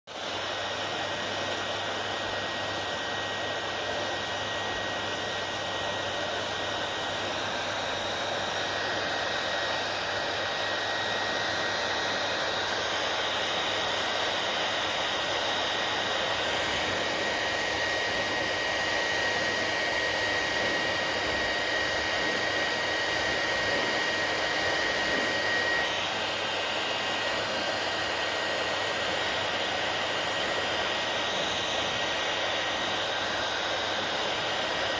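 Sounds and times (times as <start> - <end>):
hair dryer blowing air: 0.1 - 34.9
hair dryer high whine: 0.1 - 34.9.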